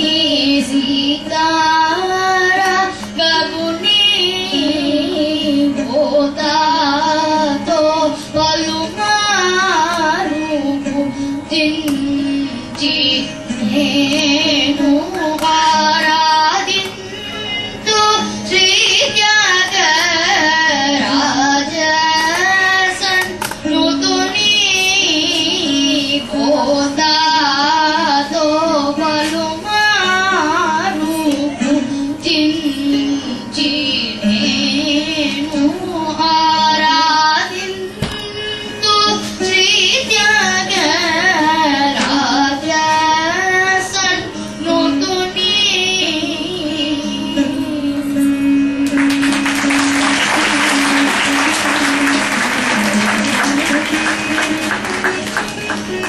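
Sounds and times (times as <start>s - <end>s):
boy singing into microphone: 0.0s - 49.3s.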